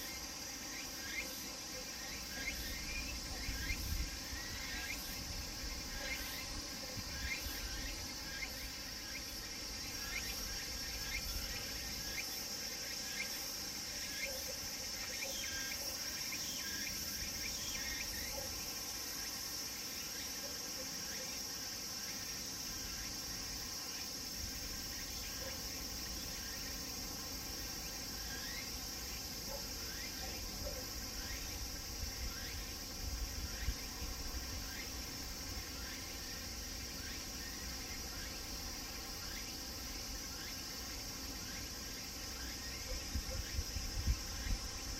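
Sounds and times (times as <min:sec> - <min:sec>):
cicadas shrilling: 0:00.0 - 0:44.9
quick falling cicada chirps: 0:00.0 - 0:44.9.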